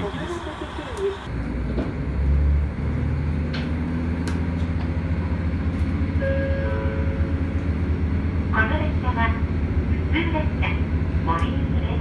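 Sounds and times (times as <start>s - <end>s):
train engine hum: 0.0s - 12.0s.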